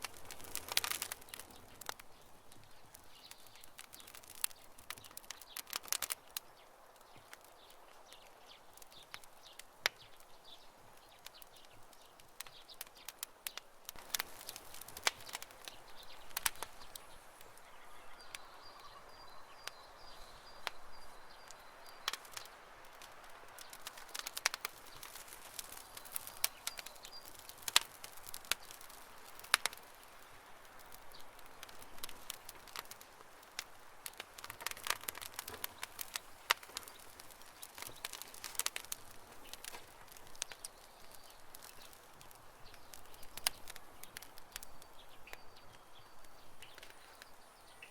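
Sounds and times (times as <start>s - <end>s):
soft hiss: 0.0s - 47.9s
wood fire crackling and popping: 0.0s - 47.9s.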